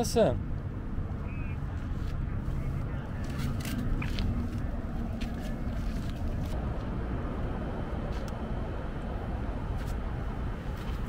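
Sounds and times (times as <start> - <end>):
vehicle engine idling: 0.5 - 11.0.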